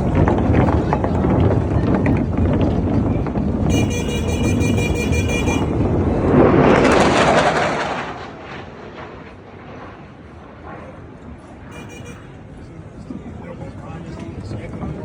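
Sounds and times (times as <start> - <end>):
aircraft engine rushing overhead: 0.0 - 15.0.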